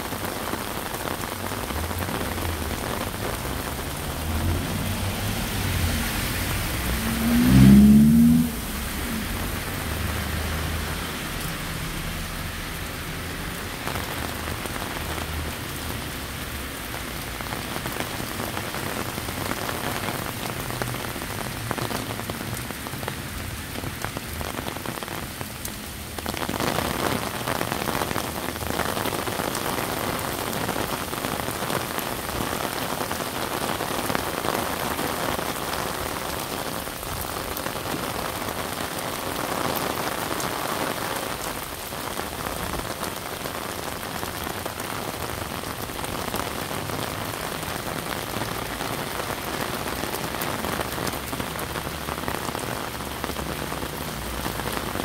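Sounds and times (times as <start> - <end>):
torrential rain on road: 0.0 - 55.0
car tyres swishing through water: 0.1 - 55.0.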